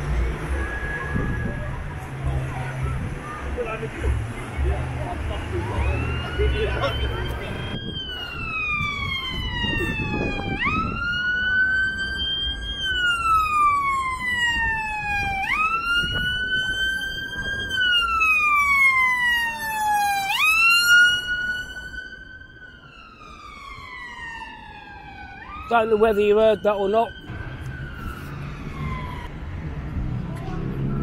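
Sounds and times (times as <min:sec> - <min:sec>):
ambulance siren wailing: 0:00.0 - 0:31.0
traffic and street noise: 0:00.0 - 0:31.0.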